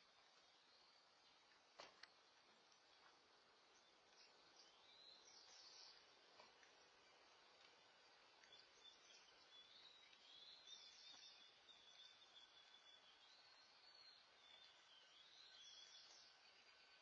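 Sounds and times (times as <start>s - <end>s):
distant bird chirps: 0.0s - 17.0s.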